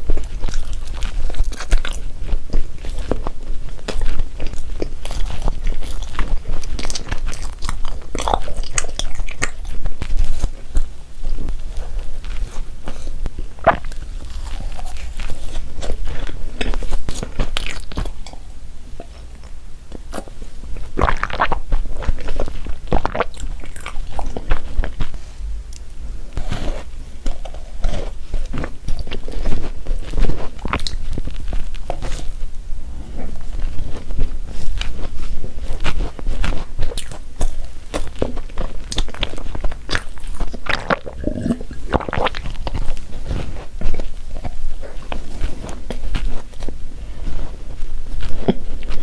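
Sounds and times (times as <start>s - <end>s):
crunchy bites: 0.0s - 32.4s, 34.6s - 46.8s
person chewing: 0.0s - 49.0s.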